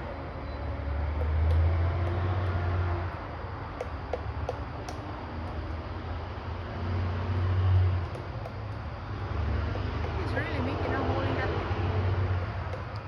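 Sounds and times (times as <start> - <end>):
woodpecker pecking tree: 0.7 - 13.0.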